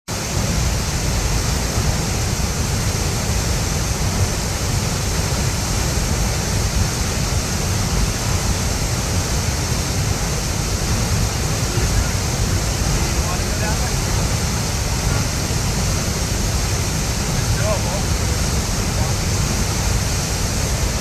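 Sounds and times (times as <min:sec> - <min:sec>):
waterfall rushing: 0:00.1 - 0:21.0.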